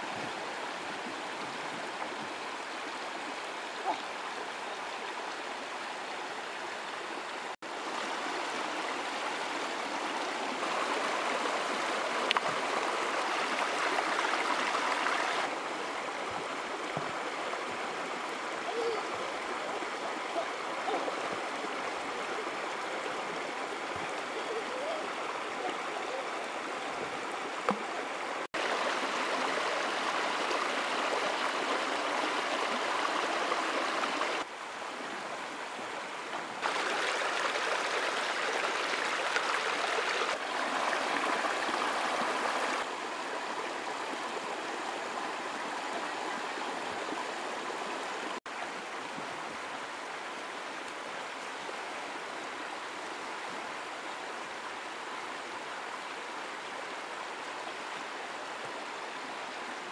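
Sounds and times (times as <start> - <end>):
river water babbling over rocks: 0.0 - 59.9.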